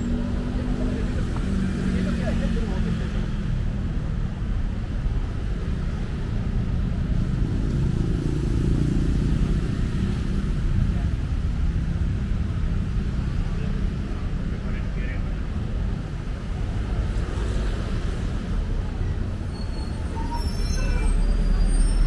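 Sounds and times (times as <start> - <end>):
cars and motorcycles passing: 0.0 - 22.0.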